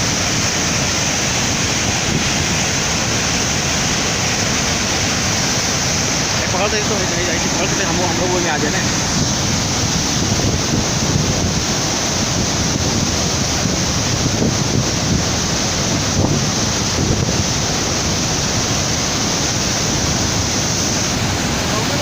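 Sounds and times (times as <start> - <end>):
floodwater rushing: 0.0 - 22.0
wind buffeting microphone: 0.0 - 22.0.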